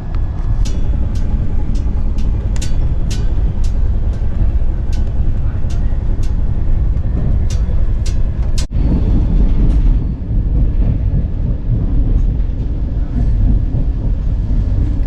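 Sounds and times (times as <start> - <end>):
train coach rumbling: 0.0 - 15.0.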